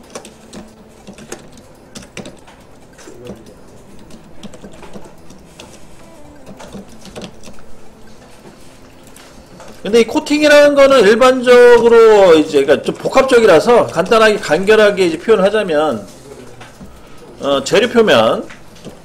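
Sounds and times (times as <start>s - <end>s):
computer keyboard typing: 0.0s - 19.0s.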